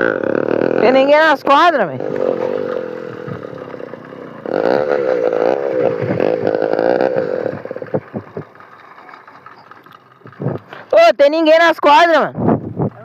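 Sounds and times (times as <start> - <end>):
two-stroke engine revving and popping: 0.0 - 11.0.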